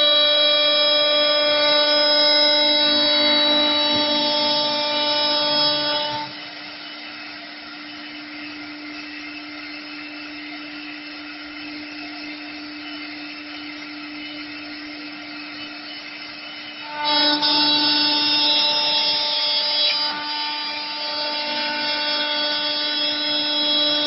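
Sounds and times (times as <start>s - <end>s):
router spindle humming: 0.0s - 24.0s.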